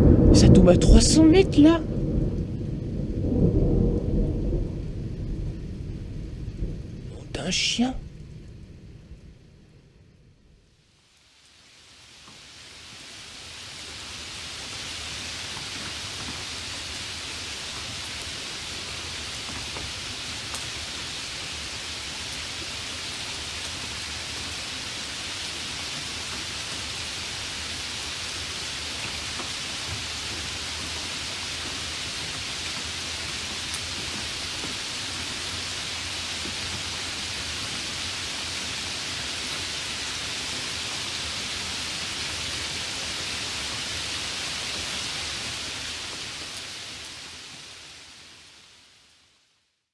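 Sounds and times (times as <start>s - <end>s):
steady rain hiss: 0.0s - 49.9s.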